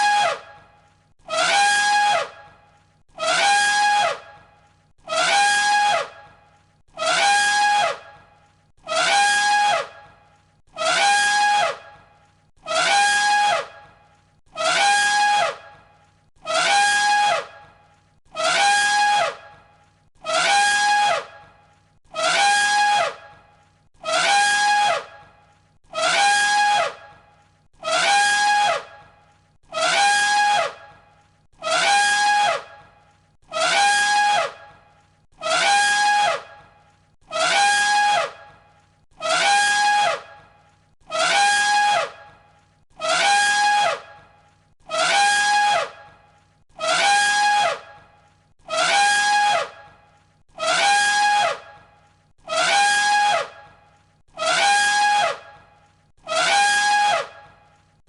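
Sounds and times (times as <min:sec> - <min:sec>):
elephant trumpet call: 0:01.2 - 0:02.4, 0:03.2 - 0:04.4, 0:05.0 - 0:06.4, 0:07.0 - 0:08.2, 0:08.8 - 0:12.0, 0:12.6 - 0:13.8, 0:14.5 - 0:15.8, 0:16.4 - 0:19.6, 0:20.2 - 0:27.2, 0:27.8 - 0:31.0, 0:31.6 - 0:36.7, 0:37.3 - 0:40.5, 0:41.1 - 0:46.2, 0:46.8 - 0:50.0, 0:50.6 - 0:57.7.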